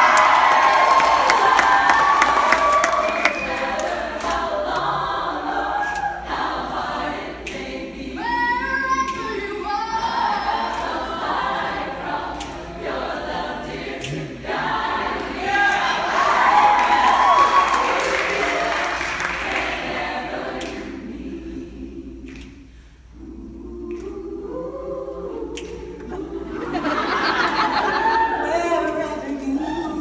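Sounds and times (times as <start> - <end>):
women's choir singing a cappella: 0.0 - 30.0.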